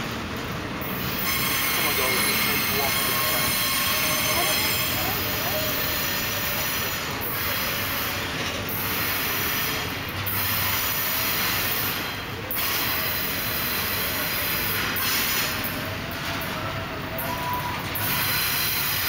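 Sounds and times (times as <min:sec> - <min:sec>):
steel wheels on rail: 0:00.0 - 0:19.0
faint wheel squeal: 0:01.0 - 0:14.4, 0:16.2 - 0:19.0.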